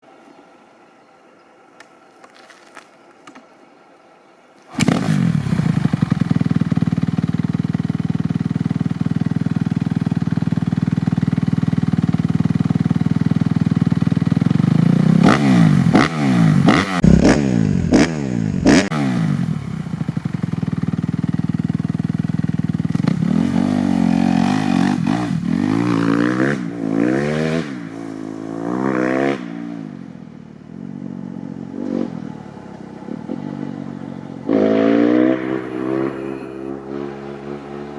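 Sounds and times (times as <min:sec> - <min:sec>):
motorcycle engine revving: 0:04.7 - 0:37.9.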